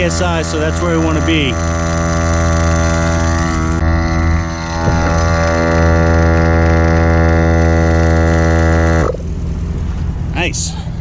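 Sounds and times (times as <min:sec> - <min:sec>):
air compressor droning: 0:00.0 - 0:11.0.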